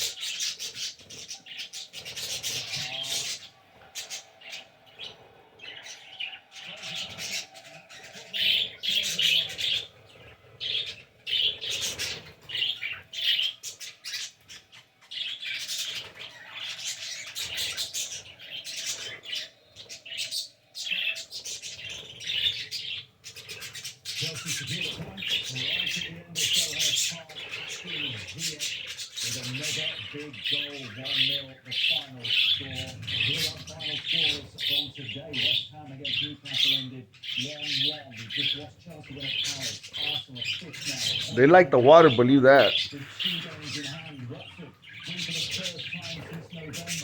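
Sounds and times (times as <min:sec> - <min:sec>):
caged birds chirping and squawking: 0:00.0 - 0:47.0.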